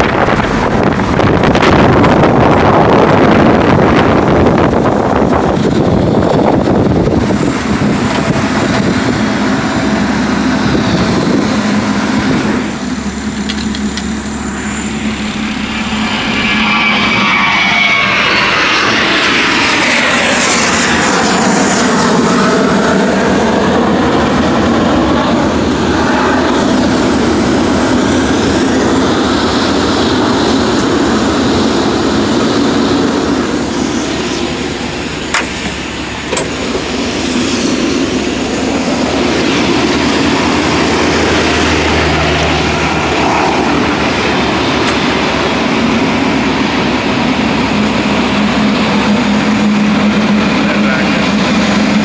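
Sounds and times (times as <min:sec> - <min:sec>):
jet engines running: 0:00.0 - 0:52.0
jet passing: 0:00.0 - 0:52.0
vehicle driving: 0:00.0 - 0:52.0.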